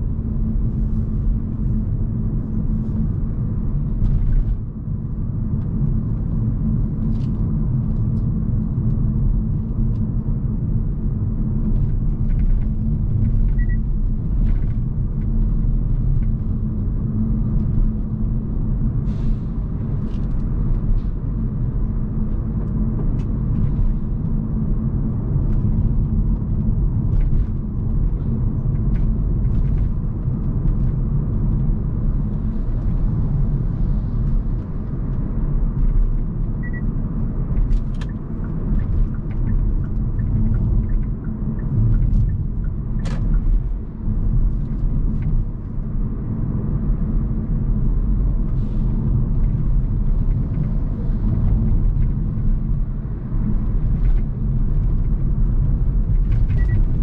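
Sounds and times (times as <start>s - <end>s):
tyre and road rumble: 0.0s - 57.0s.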